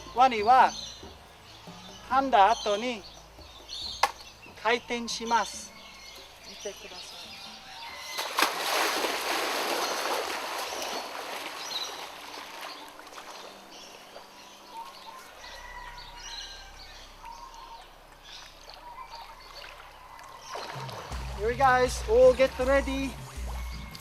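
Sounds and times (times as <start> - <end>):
water splashing and churning: 0.0 - 24.0
water trickling: 0.0 - 24.0.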